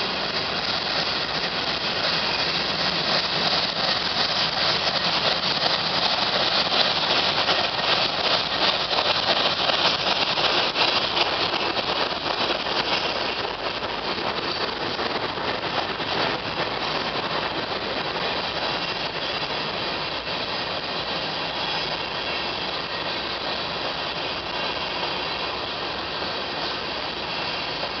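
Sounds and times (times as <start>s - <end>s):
freight train wheels clattering: 0.0s - 28.0s.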